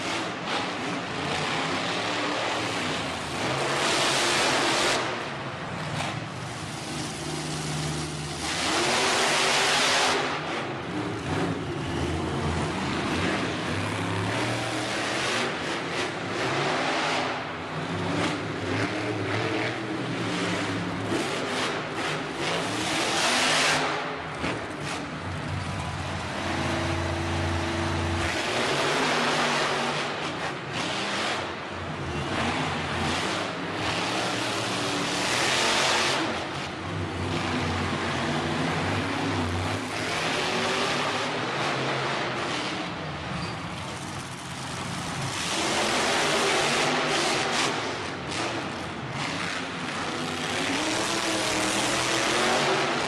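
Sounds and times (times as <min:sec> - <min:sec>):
monster truck engines revving: 0:00.0 - 0:53.0.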